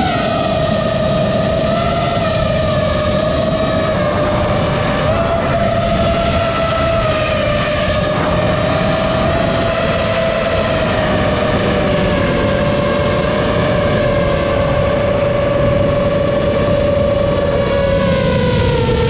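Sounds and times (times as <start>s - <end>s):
drone motors whining: 0.0s - 19.0s
wind rushing over microphone: 0.0s - 19.0s.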